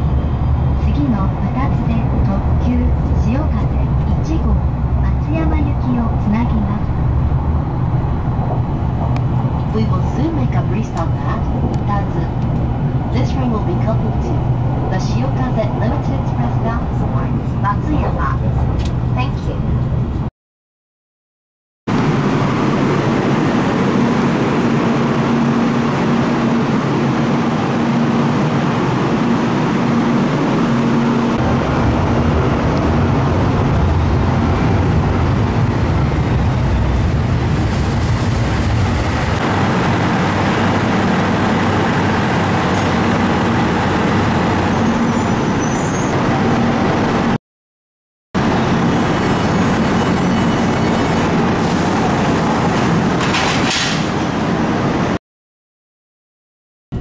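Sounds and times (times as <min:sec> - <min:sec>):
train running rumble: 0:00.0 - 0:20.3, 0:21.9 - 0:47.4, 0:48.4 - 0:55.2.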